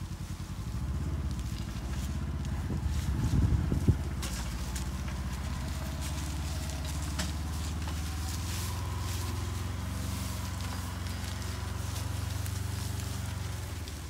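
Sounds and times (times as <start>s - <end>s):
dry hay crackling: 0.0s - 14.0s
vehicle engine running: 0.0s - 14.0s.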